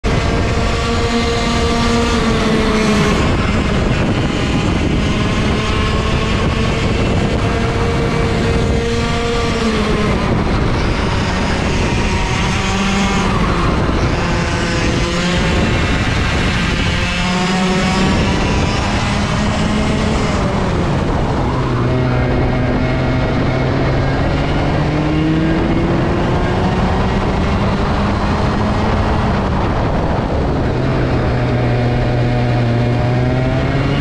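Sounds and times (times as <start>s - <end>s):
kart engines buzzing: 0.0s - 34.0s
wind rushing over microphone: 0.0s - 34.0s.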